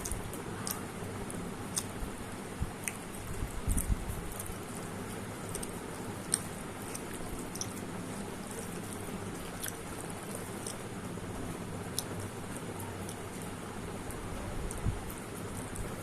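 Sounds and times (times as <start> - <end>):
person chewing food: 0.0 - 13.6
low background hum: 0.0 - 16.0.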